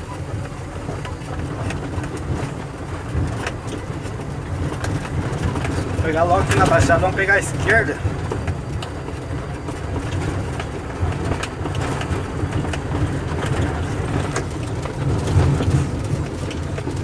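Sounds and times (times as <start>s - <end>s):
diesel truck engine running: 0.0s - 17.0s
cab rattles and knocks: 0.8s - 17.0s.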